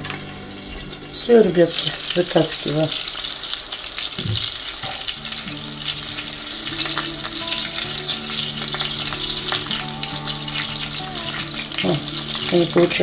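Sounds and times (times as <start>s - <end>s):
patties sizzling in oil: 0.0s - 13.0s.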